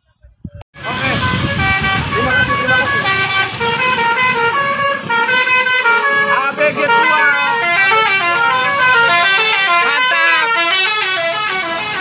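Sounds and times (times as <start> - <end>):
bus multi-tone horn playing tune: 0.8 - 12.0.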